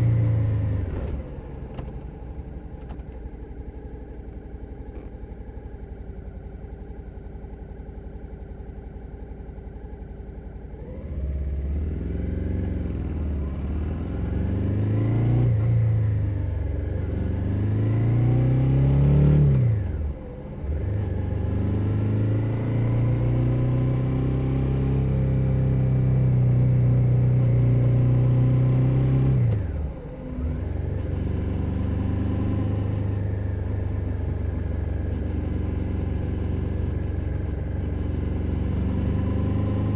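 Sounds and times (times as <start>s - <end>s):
motorcycle engine: 4.7s - 39.9s.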